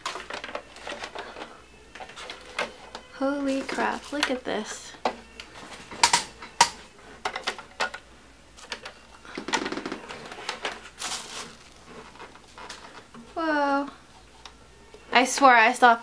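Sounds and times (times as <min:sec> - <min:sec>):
scraping and rustling of packing: 0:00.0 - 0:08.0, 0:08.6 - 0:14.4.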